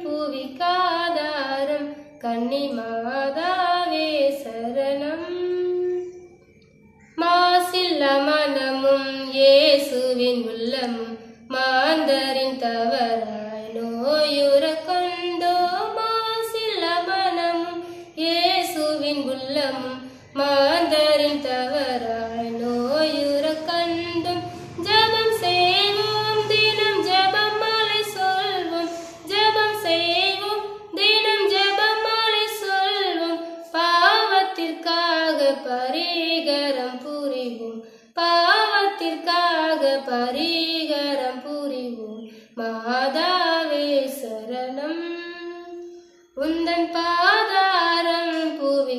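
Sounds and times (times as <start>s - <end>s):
woman singing unaccompanied: 0.0s - 48.9s.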